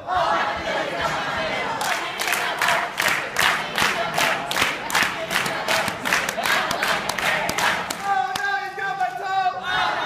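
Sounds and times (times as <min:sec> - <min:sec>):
crowd chanting rhythmically: 0:00.0 - 0:08.4, 0:09.5 - 0:10.0.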